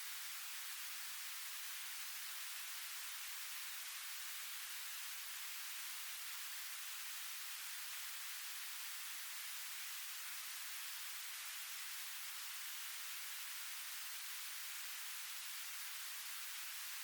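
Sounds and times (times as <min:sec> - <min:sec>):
white noise hiss: 0:00.0 - 0:17.0.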